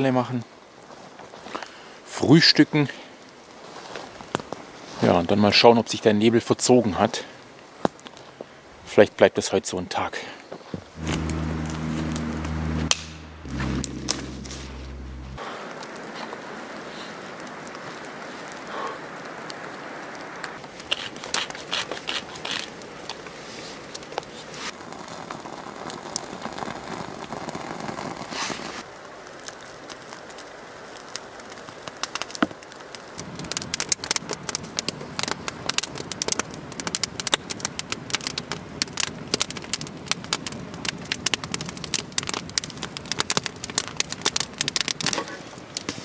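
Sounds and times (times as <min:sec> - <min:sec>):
campfire crackling and popping: 0:03.2 - 0:04.8, 0:07.3 - 0:08.6, 0:10.8 - 0:46.0.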